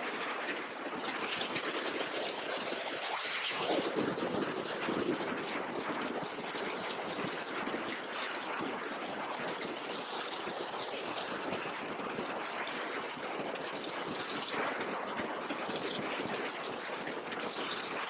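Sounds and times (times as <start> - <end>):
wind buffeting a camera: 0.0 - 18.0.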